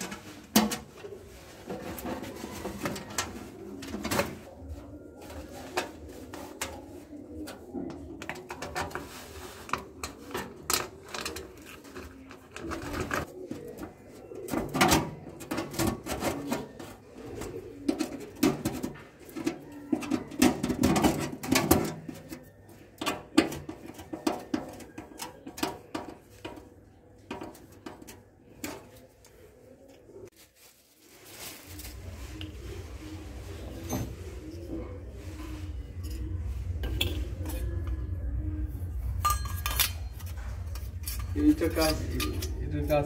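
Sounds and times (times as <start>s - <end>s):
pigeons cooing: 0.0s - 30.3s, 31.2s - 43.0s.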